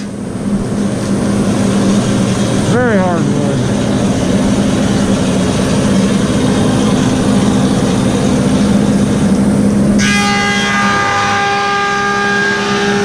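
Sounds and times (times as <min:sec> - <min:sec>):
motor hum: 0:00.0 - 0:13.0
planer cutting wood roar: 0:00.0 - 0:13.0
planer whine: 0:00.0 - 0:13.0.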